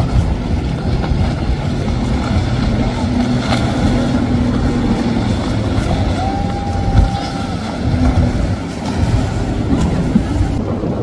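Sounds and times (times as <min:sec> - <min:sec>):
hull splashing through waves: 0:00.0 - 0:11.0
outboard motor drone: 0:00.0 - 0:11.0.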